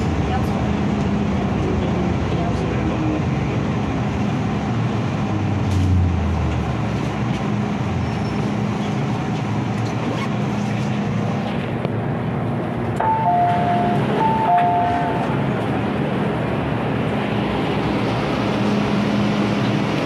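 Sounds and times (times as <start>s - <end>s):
train carriage rumble and hiss: 0.0s - 20.0s.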